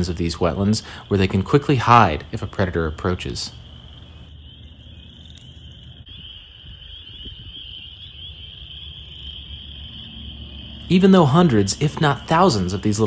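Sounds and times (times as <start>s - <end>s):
chorus of frogs peeping: 0.0s - 13.0s.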